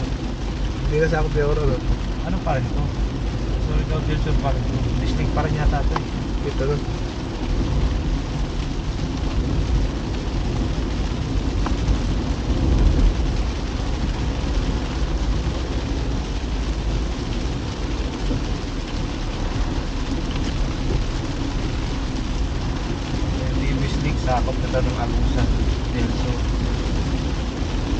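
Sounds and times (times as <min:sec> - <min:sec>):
rain hiss: 0:00.0 - 0:27.9
road and tyre rumble: 0:00.0 - 0:27.9.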